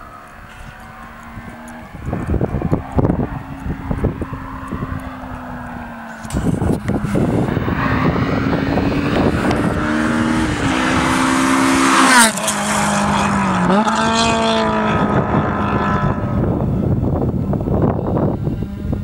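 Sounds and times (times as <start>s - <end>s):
sports car engine passing: 0.0s - 19.0s.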